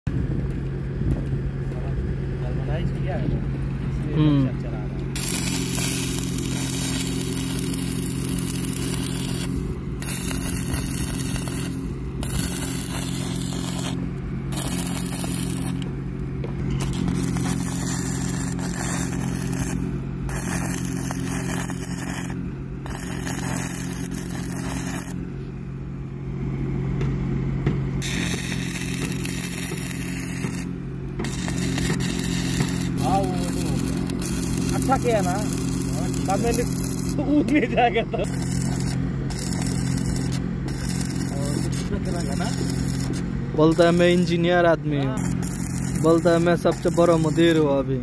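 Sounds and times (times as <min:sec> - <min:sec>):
low hum: 0:00.1 - 0:47.2
arc welding crackling: 0:05.0 - 0:25.3, 0:28.0 - 0:48.0.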